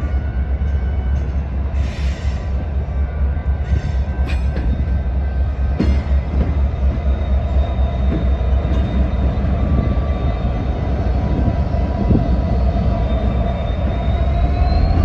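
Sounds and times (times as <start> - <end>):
locomotive engine rumbling: 0.0 - 15.0.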